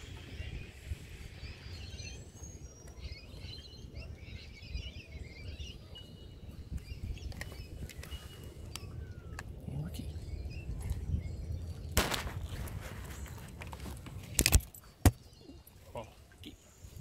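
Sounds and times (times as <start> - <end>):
small birds chirping: 0.0 - 13.9, 14.7 - 17.0.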